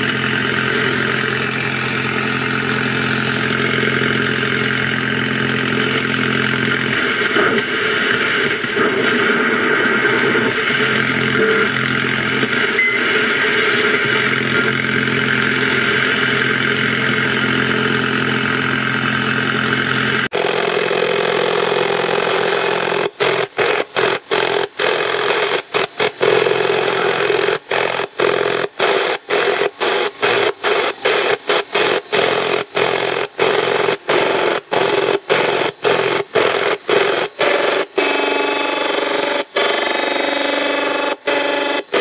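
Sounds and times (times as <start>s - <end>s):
droning radio interference buzz: 0.0s - 42.0s
radio hiss: 0.0s - 42.0s.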